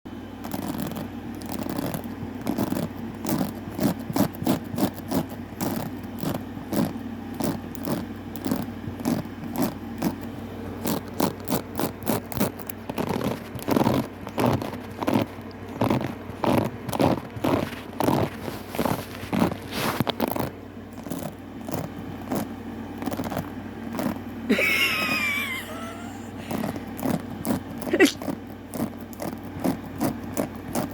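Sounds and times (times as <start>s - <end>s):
brush scraping strokes: 0.4s - 24.4s, 26.3s - 30.9s.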